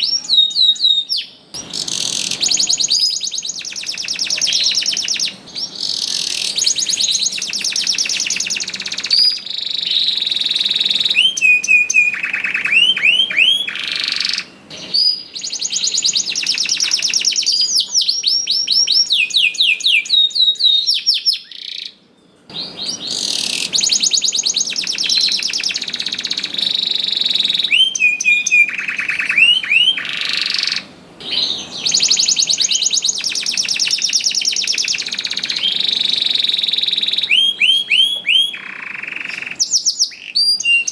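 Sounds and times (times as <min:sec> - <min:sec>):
canary singing trills and whistles: 0:00.0 - 0:40.9.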